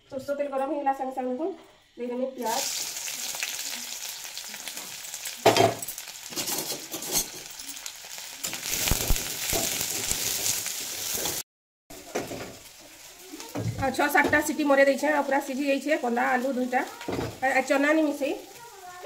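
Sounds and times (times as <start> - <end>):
onions sizzling in oil: 1.8 - 19.0.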